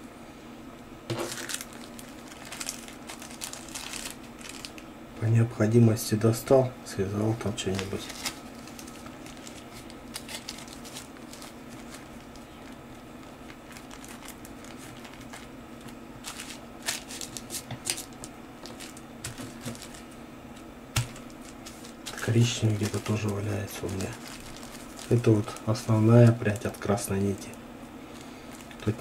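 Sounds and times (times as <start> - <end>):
steady low hum: 0.0 - 29.0
plastic bag crinkling: 1.1 - 4.9, 7.6 - 29.0.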